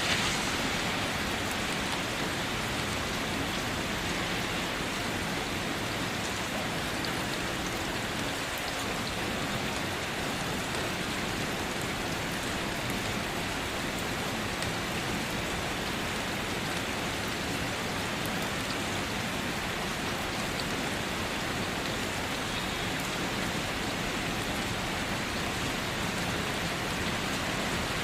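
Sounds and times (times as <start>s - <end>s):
heavy rain drumming on a car: 0.0s - 28.0s.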